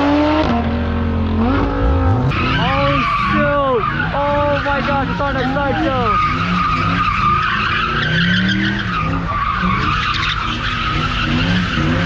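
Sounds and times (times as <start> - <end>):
car engine revving: 0.0 - 12.0
tyres squealing: 1.6 - 12.0.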